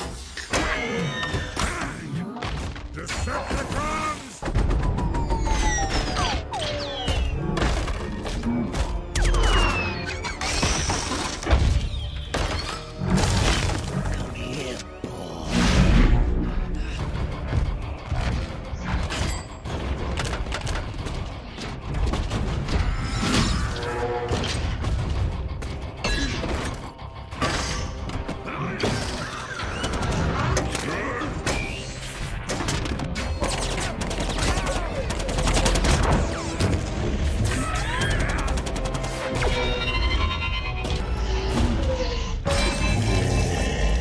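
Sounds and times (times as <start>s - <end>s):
action film music: 0.0s - 44.0s.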